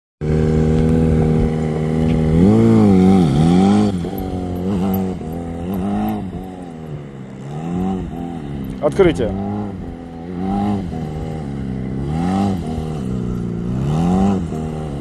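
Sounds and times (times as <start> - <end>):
motorcycle engine revving: 0.2 - 15.0.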